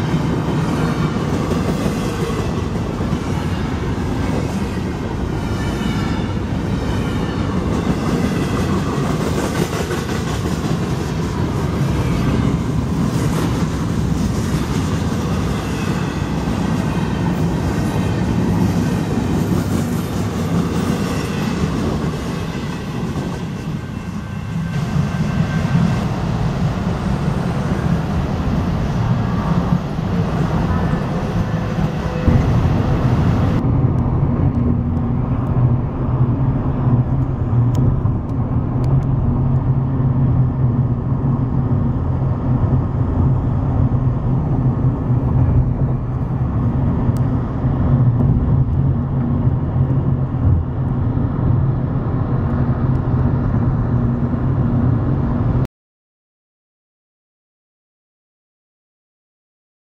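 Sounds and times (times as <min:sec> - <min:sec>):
train wheels on rails: 0:00.0 - 0:55.5.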